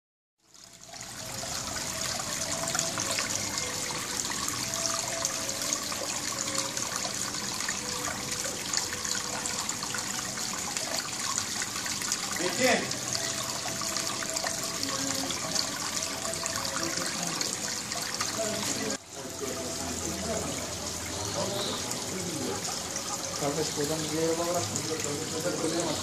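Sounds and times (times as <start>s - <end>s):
waterfall pouring and splashing: 0.5s - 26.0s.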